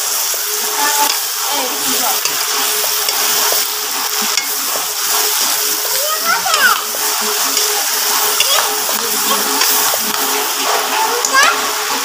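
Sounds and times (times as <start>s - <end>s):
food sizzling in hot oil: 0.0s - 12.0s
spatula scraping and clattering: 0.2s - 12.0s.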